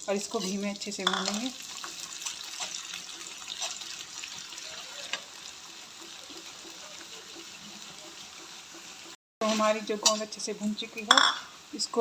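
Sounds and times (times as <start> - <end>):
gum frying in hot oil: 0.0 - 12.0.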